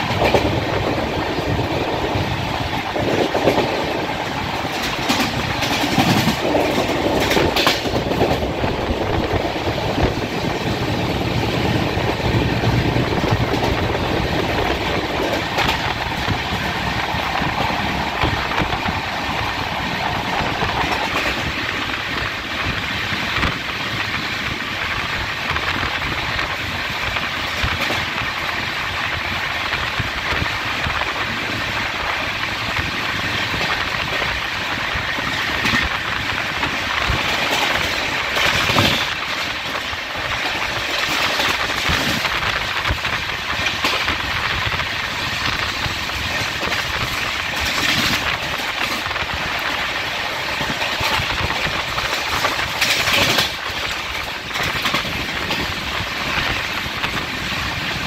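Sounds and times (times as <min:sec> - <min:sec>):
rail joint clicks: 0:00.0 - 0:58.0
train wheels rumbling on rail: 0:00.0 - 0:58.0.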